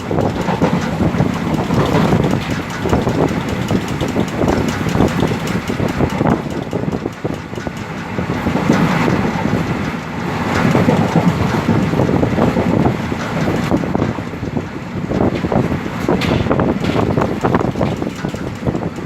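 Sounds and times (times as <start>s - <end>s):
train rumble: 0.0s - 19.0s
train wheels clickety-clack: 0.0s - 19.0s.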